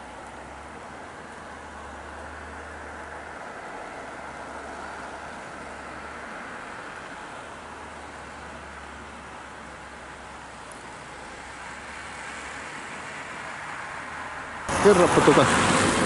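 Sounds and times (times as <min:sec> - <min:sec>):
street ambience hiss: 0:00.0 - 0:16.0.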